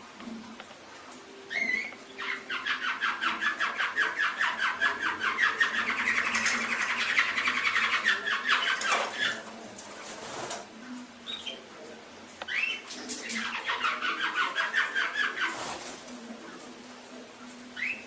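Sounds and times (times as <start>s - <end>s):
canary singing: 1.2s - 10.4s, 11.2s - 11.8s, 12.4s - 18.0s.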